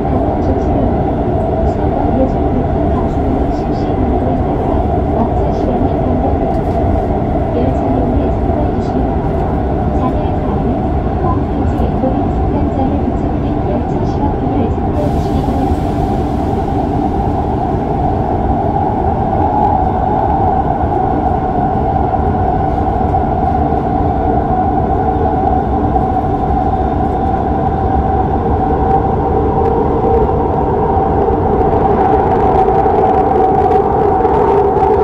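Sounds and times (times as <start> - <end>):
subway train rumbling in tunnel: 0.0 - 35.0.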